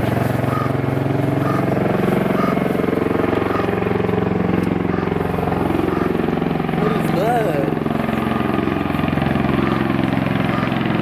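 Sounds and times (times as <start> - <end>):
aircraft rotors deep throbbing drone: 0.0 - 11.0.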